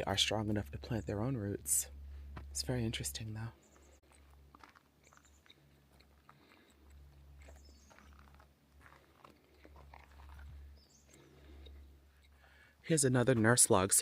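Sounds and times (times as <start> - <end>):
faint low rumble: 0.0 - 14.0.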